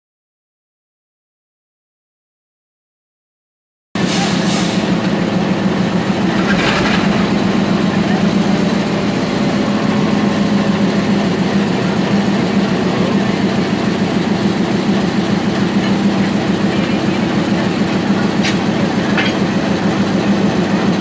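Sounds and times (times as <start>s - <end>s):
diesel locomotive engine droning: 4.0s - 21.0s.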